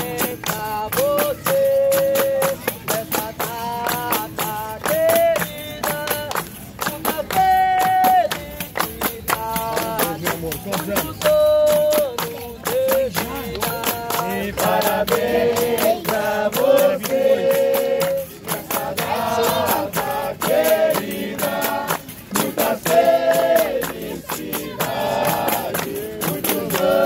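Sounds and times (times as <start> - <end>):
hand clapping: 0.0 - 27.0
pandeiro beat: 0.0 - 27.0
voices singing: 0.0 - 27.0.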